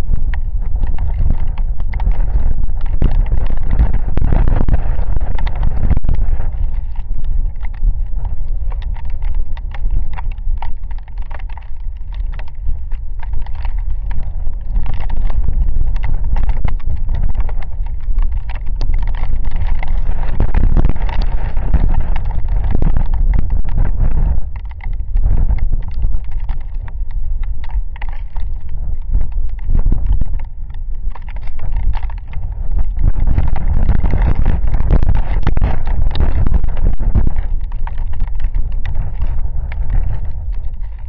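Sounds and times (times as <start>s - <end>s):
raindrops tapping: 0.0s - 41.0s
wind buffeting microphone: 0.0s - 41.0s.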